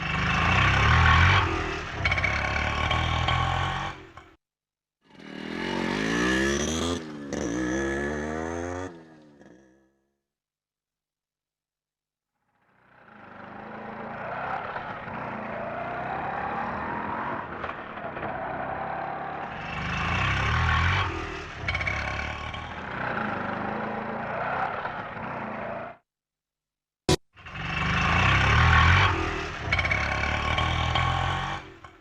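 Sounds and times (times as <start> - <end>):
auto-rickshaw engine running: 0.0 - 4.4, 5.1 - 10.0, 12.6 - 25.8, 27.4 - 32.0.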